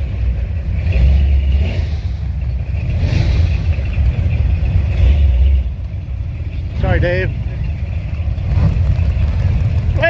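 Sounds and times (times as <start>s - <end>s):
car engines rumbling: 0.0s - 10.0s.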